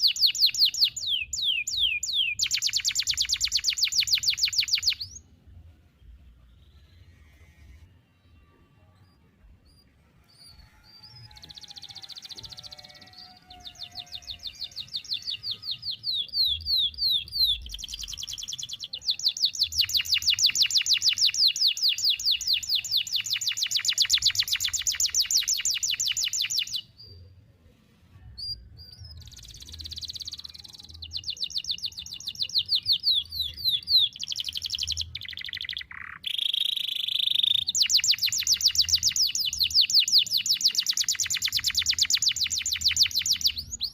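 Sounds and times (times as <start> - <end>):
canary singing trills: 0.0 - 5.4, 6.6 - 27.4, 28.3 - 43.9.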